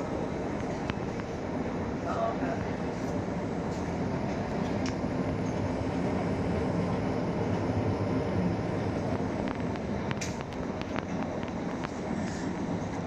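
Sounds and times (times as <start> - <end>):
fabric machine rumbling and whirring: 0.0 - 13.0.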